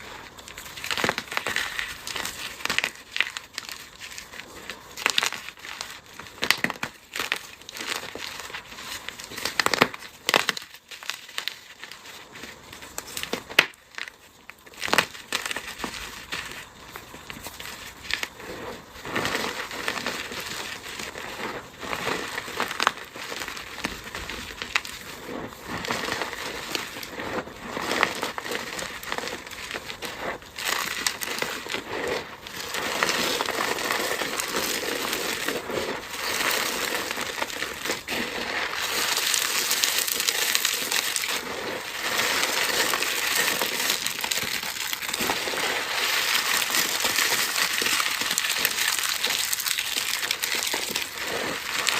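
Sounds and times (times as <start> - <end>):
dry material crunching: 0.0 - 51.9.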